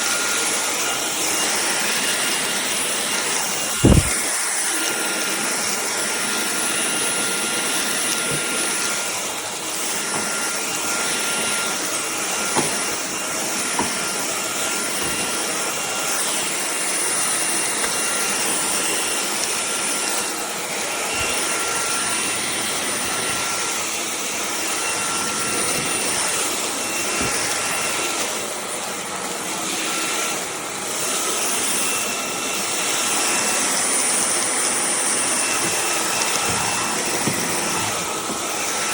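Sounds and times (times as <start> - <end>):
stick vacuum running: 0.0 - 38.9.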